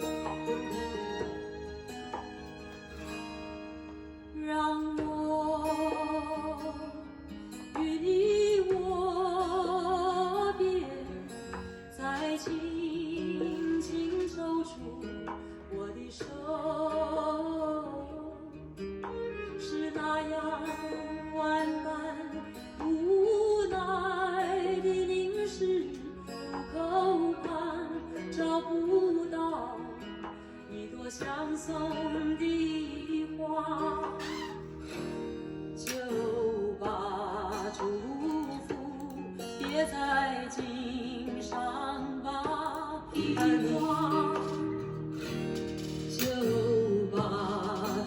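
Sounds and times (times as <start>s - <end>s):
person singing: 0.0s - 2.1s, 4.1s - 7.1s, 7.7s - 35.2s, 35.8s - 48.0s
plucked acoustic guitar: 0.0s - 48.0s.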